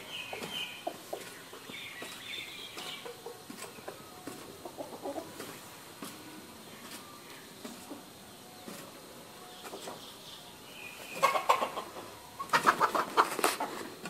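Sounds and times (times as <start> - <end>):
birds chirping: 0.0 - 14.0
low clucking bird notes: 0.0 - 14.0.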